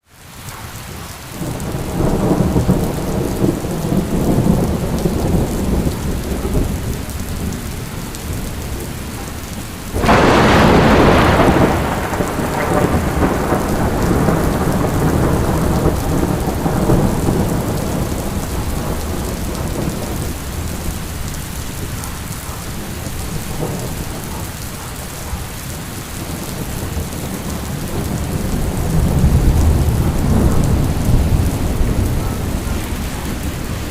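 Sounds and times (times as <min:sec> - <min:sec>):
steady rain: 0:00.0 - 0:33.9
thunder rumbling: 0:01.3 - 0:33.9
sharp thunderclap: 0:01.4 - 0:07.6, 0:09.9 - 0:24.5, 0:26.2 - 0:33.9.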